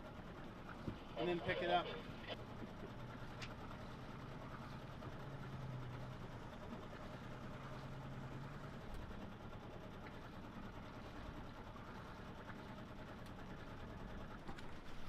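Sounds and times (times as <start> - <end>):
boat diesel engine humming: 0.0 - 15.0.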